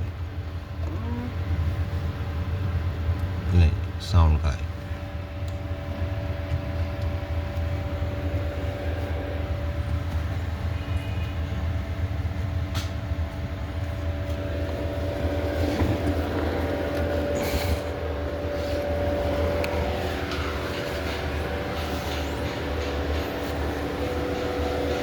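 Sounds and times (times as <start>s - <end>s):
car engine idling: 4.7s - 25.0s.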